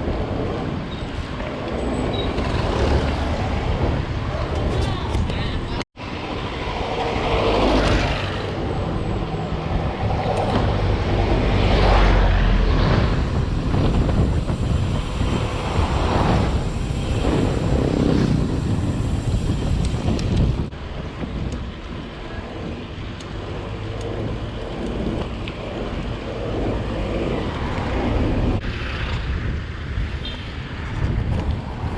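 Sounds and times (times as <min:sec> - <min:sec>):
road and traffic noise: 0:00.0 - 0:31.9
wind on microphone: 0:00.0 - 0:31.9.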